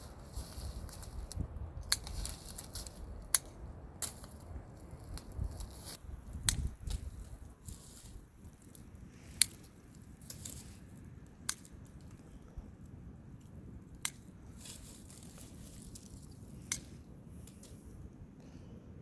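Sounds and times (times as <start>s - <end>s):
pruning shears snipping branches: 0.0s - 12.3s, 14.0s - 17.8s
twigs rustling: 0.0s - 12.4s, 13.4s - 17.9s.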